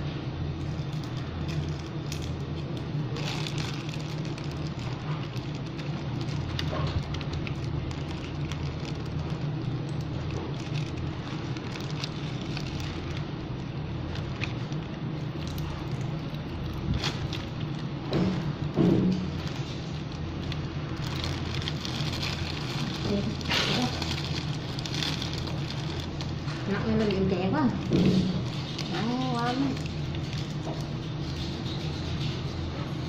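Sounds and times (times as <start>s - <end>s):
plastic bag crinkling: 0.0s - 33.0s
steady low hum: 0.0s - 33.0s.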